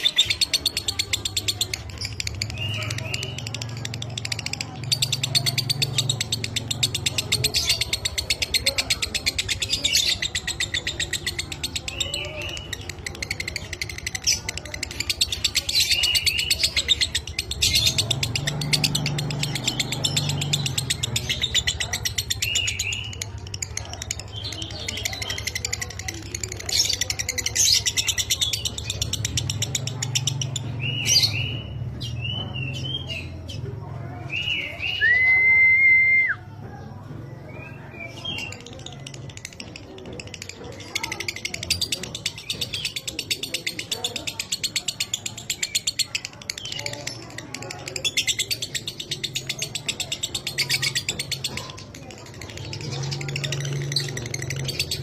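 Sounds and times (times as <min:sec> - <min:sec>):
lovebird chattering song: 0:00.0 - 0:35.4, 0:37.4 - 0:55.0.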